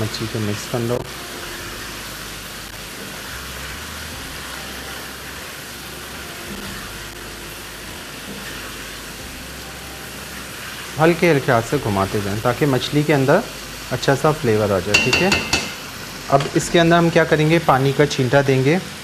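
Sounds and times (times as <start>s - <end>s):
curry sizzling in a pot: 0.0s - 19.0s.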